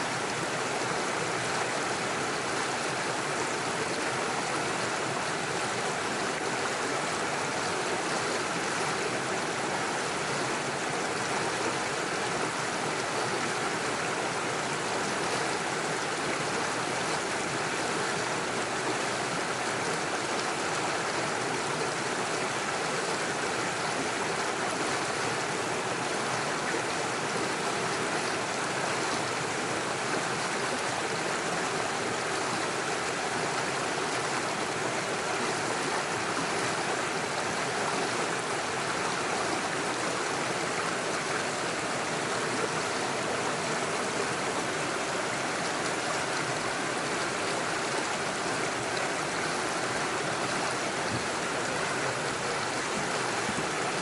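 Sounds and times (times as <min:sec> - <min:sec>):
stream splashing over stones: 0:00.0 - 0:54.0.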